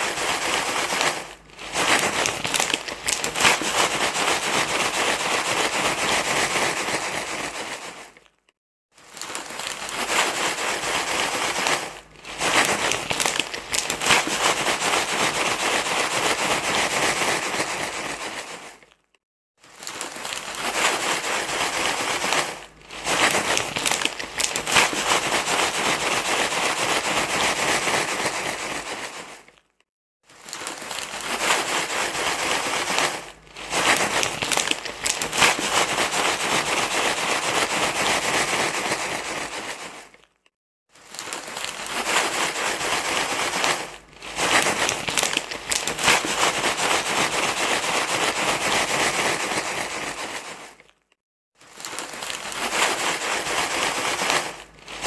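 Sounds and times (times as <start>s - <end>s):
crinkling rustle with crackles: 0.0s - 55.0s.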